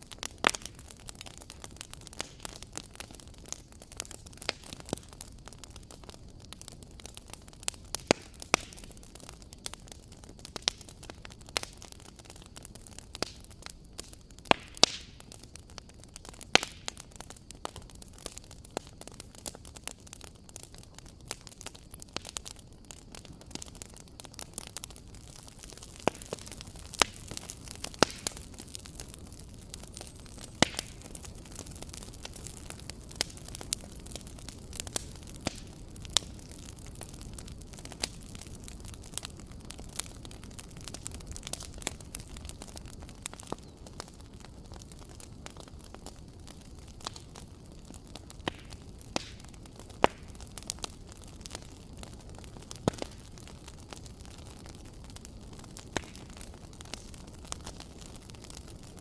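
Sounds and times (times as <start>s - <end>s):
fire hiss: 0.0s - 59.0s
wood fire crackling: 0.0s - 59.0s.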